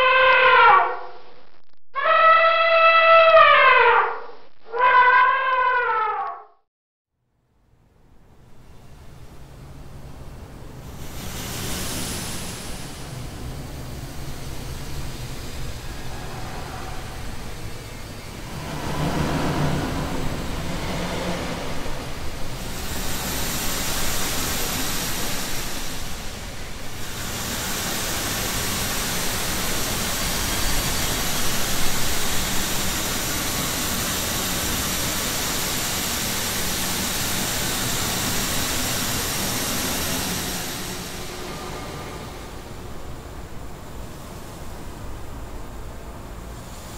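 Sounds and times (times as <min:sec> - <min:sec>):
stretched rushing noise with held tones: 0:08.4 - 0:46.9.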